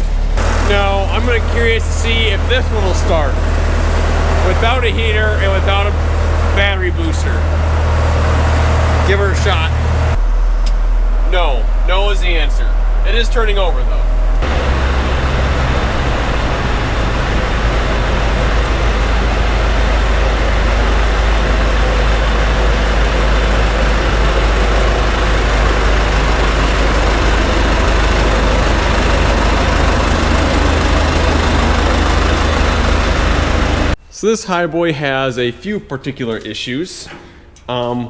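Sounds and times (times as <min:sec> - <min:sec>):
large diesel engine humming: 0:00.0 - 0:34.0.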